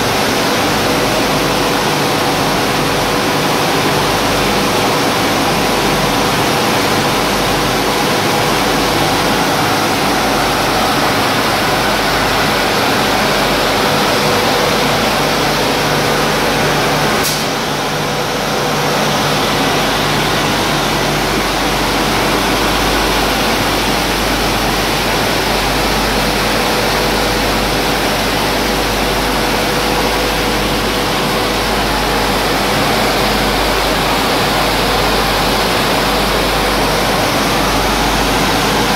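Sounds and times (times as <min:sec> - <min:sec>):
machinery roar: 0:00.0 - 0:38.9.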